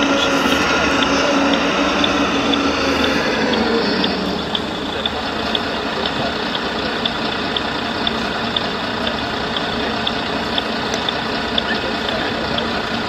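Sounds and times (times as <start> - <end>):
faint regular ticking: 0.0 - 13.0.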